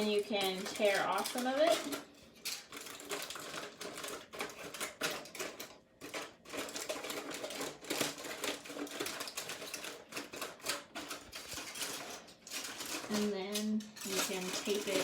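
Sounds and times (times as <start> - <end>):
aluminum foil crinkling: 0.0 - 15.0.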